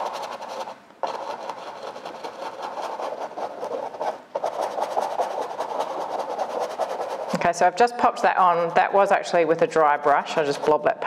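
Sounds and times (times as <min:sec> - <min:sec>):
bristle brush scrubbing canvas: 0:00.0 - 0:07.6, 0:08.6 - 0:11.0.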